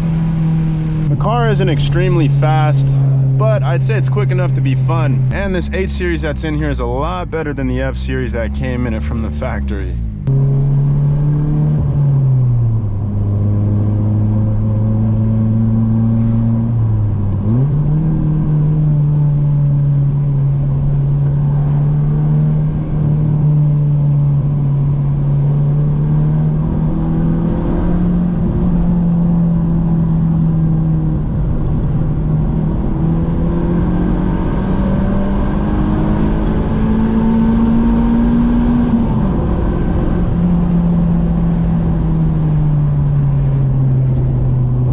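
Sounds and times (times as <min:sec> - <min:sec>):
car engine cruising: 0:00.0 - 0:44.9.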